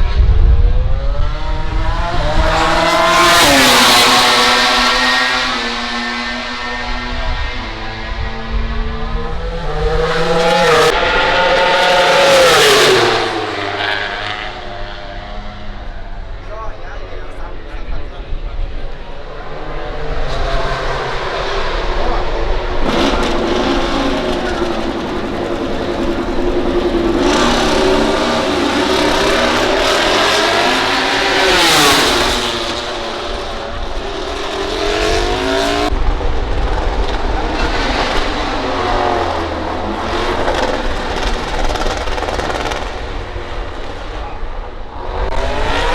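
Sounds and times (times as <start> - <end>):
motorcycle passing at high revs: 0.0 - 16.3, 19.1 - 45.9.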